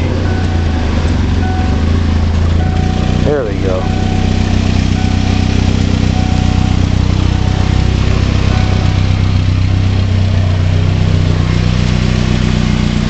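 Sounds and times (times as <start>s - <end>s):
car engine running in gear: 0.0s - 13.0s.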